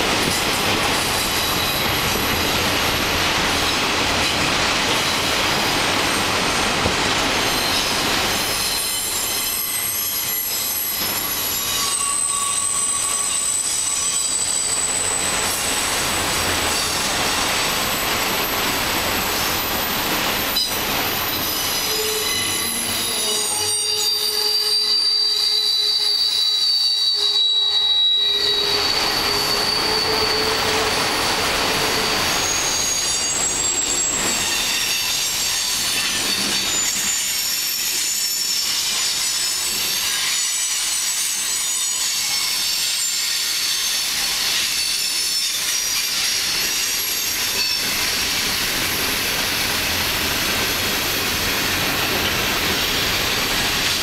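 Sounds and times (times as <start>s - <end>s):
train rolling rumble: 0.0s - 54.0s
train wheels squealing on rails: 0.0s - 54.0s.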